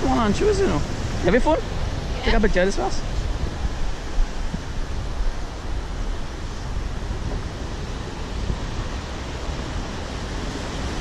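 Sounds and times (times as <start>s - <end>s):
small waves breaking: 0.0s - 11.0s
wind rumbling on microphone: 0.0s - 11.0s.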